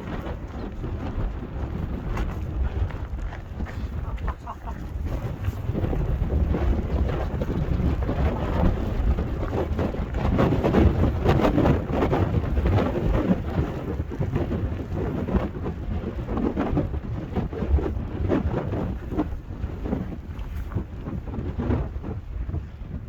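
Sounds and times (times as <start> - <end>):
blizzard wind buffeting microphone: 0.0 - 23.0.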